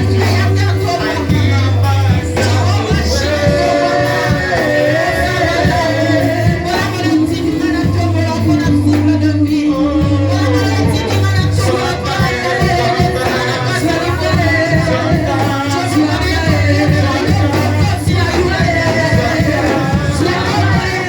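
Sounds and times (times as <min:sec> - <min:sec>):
upbeat church praise music: 0:00.0 - 0:21.0.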